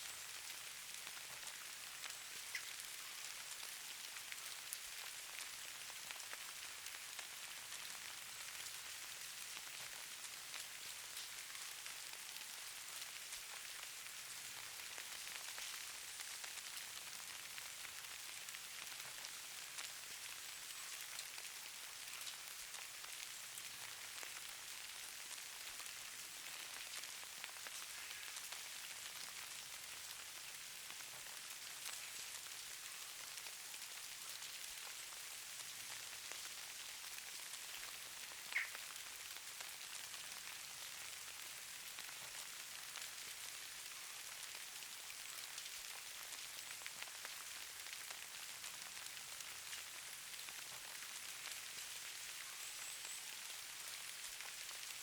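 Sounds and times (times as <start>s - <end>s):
soft high hiss: 0.0s - 14.5s, 18.4s - 48.0s, 48.6s - 55.0s.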